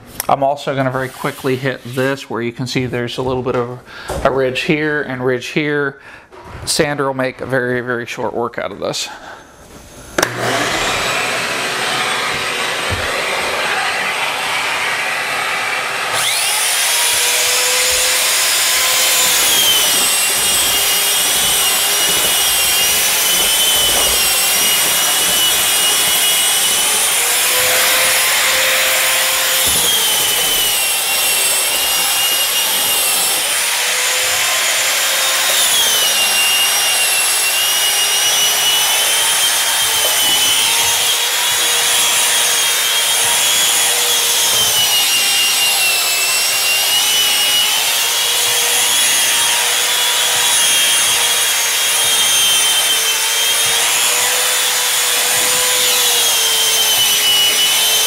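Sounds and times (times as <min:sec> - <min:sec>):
drywall sander rubbing wall: 0:00.7 - 0:03.4, 0:09.8 - 0:58.0
shop vacuum running: 0:09.7 - 0:58.0.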